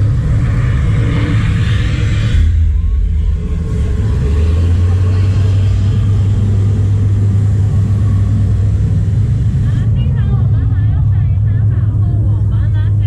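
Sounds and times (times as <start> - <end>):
deep rumble: 0.0 - 13.0.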